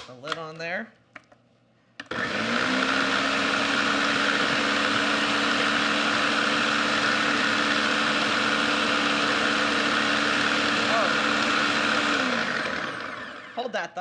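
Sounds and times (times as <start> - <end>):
blender motor running: 2.0 - 13.7.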